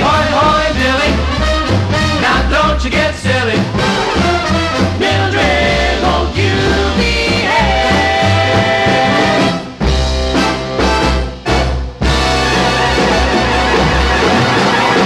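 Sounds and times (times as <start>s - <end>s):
swing band music: 0.0s - 15.0s.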